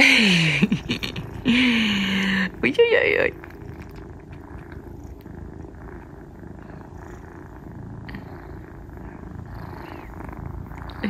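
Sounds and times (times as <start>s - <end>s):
kittens purring: 0.0s - 11.0s.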